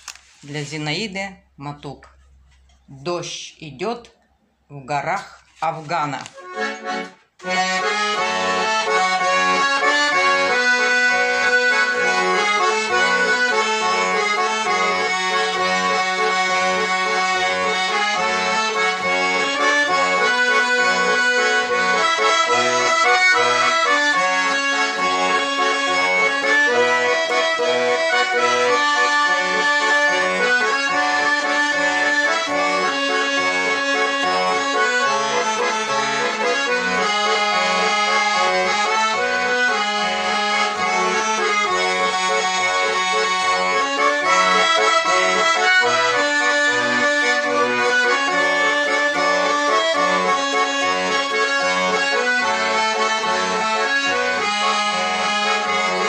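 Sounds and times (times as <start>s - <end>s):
button accordion melody: 0.0s - 1.2s, 5.1s - 56.0s.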